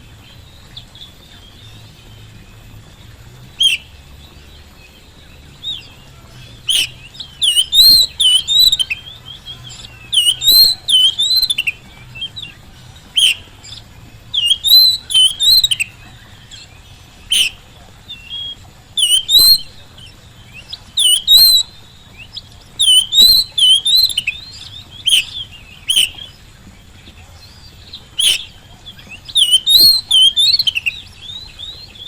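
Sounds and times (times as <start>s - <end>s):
magpie-robin singing: 0.0s - 32.0s.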